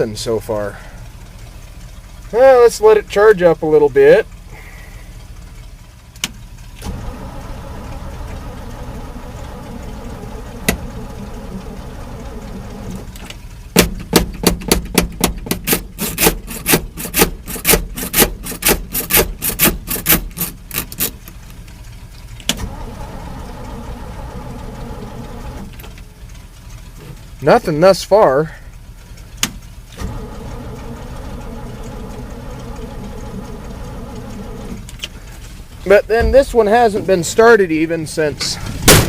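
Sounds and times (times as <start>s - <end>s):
engine idling: 0.0s - 39.0s
truck engine cranking: 0.0s - 39.0s.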